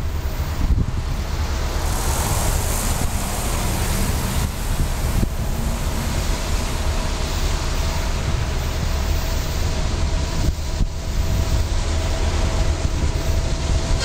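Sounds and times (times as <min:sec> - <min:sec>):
distant diesel freight train rumble: 0:00.0 - 0:14.0
wind buffeting microphone: 0:00.0 - 0:14.0.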